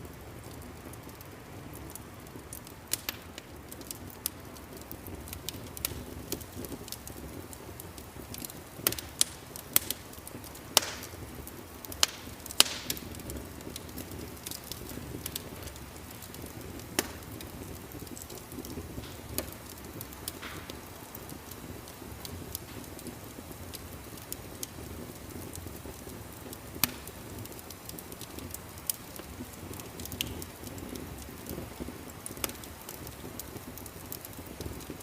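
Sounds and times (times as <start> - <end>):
low hiss: 0.0 - 35.0
wood fire crackling: 0.0 - 35.0.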